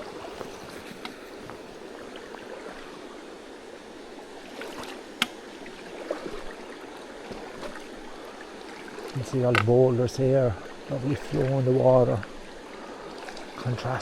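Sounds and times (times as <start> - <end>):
stream rushing over boulders: 0.0 - 14.0.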